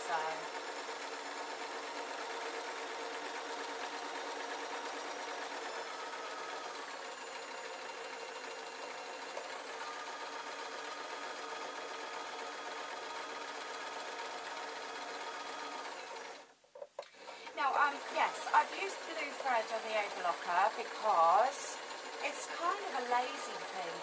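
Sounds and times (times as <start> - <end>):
electric sewing machine running: 0.0 - 24.0.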